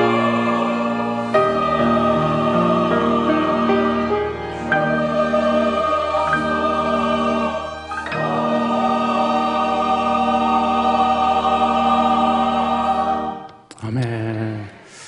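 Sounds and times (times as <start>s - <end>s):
choir holding a chord: 0.0s - 13.6s.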